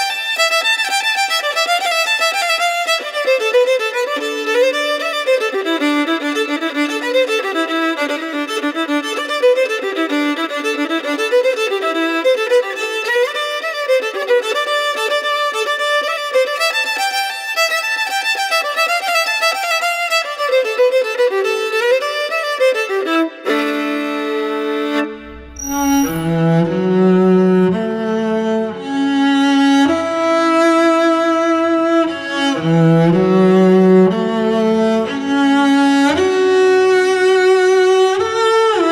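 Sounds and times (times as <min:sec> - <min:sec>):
solo violin melody: 0:00.0 - 0:38.9.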